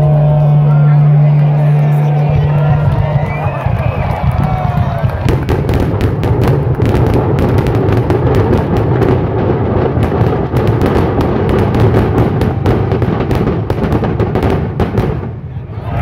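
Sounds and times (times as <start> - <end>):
low rumble: 0.0 - 16.0
fireworks bangs and crackles: 2.9 - 16.0.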